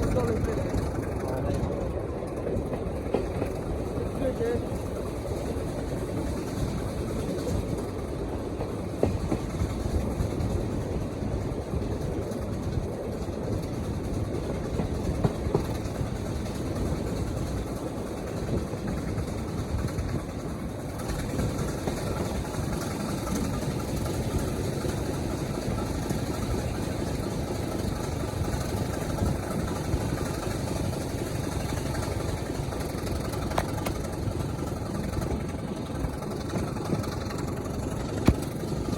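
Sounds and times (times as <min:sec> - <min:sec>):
diesel locomotive engine rumbling: 0:00.0 - 0:38.9.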